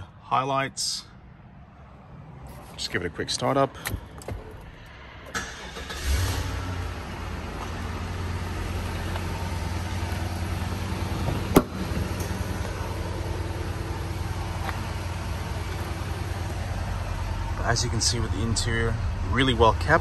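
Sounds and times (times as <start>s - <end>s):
car engine starting and idling: 2.0s - 20.0s.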